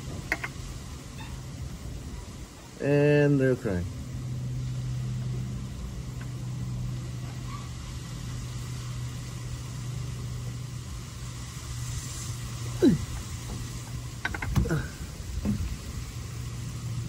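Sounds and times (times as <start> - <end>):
car engine idling: 1.8 - 17.0.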